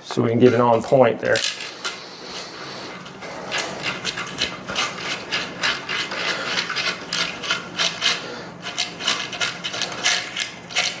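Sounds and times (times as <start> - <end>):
metal hardware clicking and rubbing: 0.4 - 11.0.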